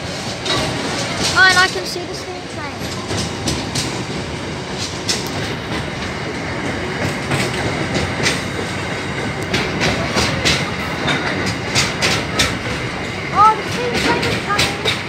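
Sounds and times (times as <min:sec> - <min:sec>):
steel wheels rumbling on rail: 0:00.0 - 0:15.0
wheels clicking over rail joints: 0:00.0 - 0:15.0.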